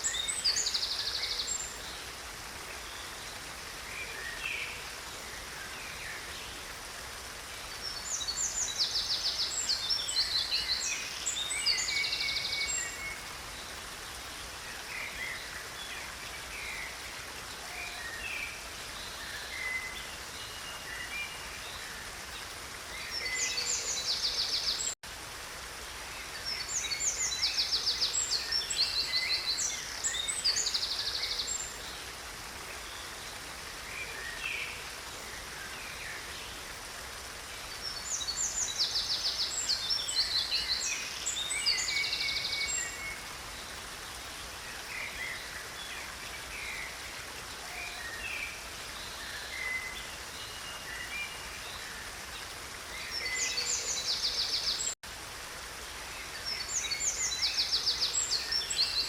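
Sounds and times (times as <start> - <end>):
creek water running: 0.0 - 59.0.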